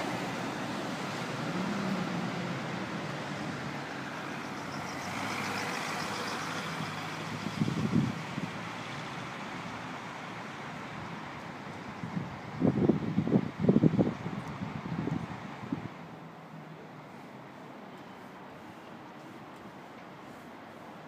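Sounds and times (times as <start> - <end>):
city street traffic hum: 0.0 - 21.0.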